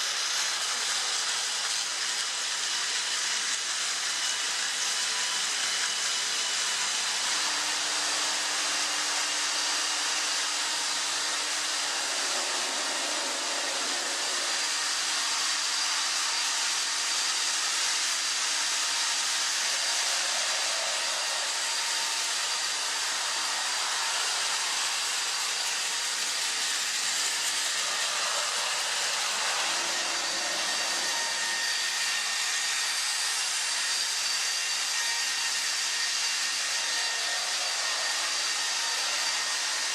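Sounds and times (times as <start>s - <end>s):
wheels hissing on plastic track: 0.0s - 34.5s
toy train motors whirring: 0.0s - 39.9s.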